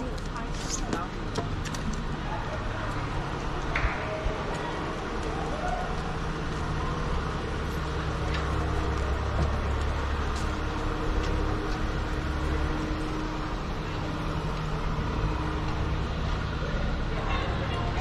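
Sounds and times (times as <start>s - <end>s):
city street noise: 0.0s - 18.0s
vehicle engine idling: 0.0s - 18.0s.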